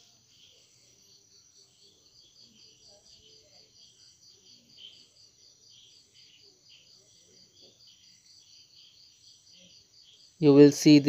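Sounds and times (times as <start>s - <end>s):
high insect trill: 0.0s - 11.0s
insects pulsing: 0.0s - 11.0s
irregular insect chirps: 0.0s - 11.0s.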